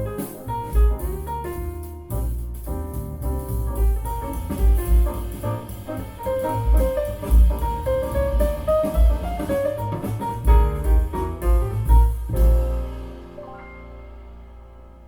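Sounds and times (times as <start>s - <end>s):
heavy bass beats: 0.0s - 13.4s
music with drums bass and piano: 0.0s - 15.0s.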